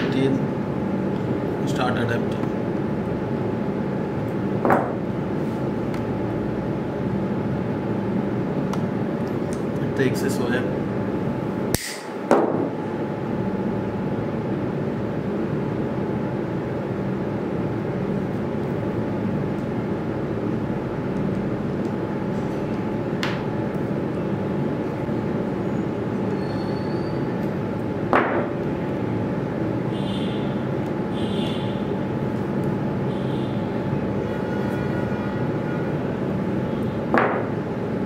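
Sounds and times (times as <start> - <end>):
room hum and hiss: 0.0 - 38.0.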